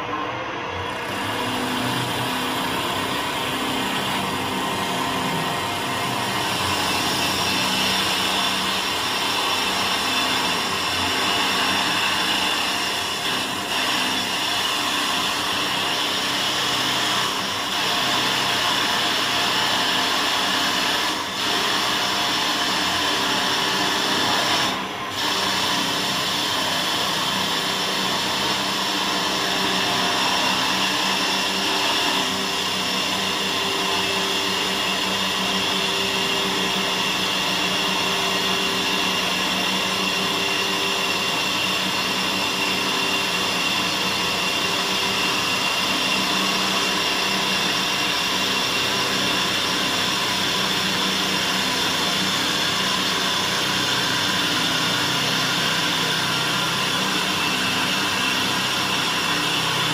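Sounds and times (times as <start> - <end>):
wood lathe whirring hiss: 0.8 - 59.9.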